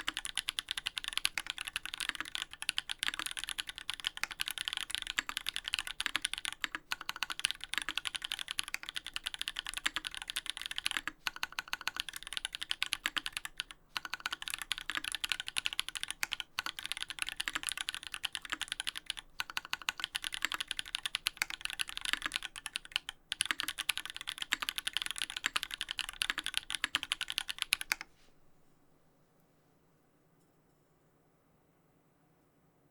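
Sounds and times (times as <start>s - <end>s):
mechanical keyboard typing: 0.0s - 28.1s.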